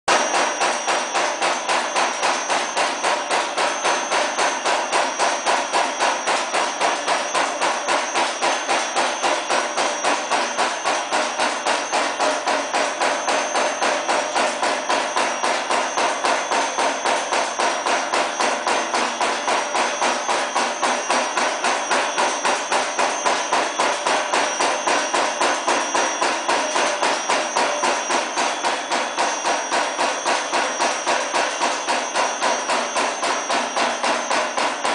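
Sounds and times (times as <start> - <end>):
stamping press striking rapidly: 0.1 - 34.9.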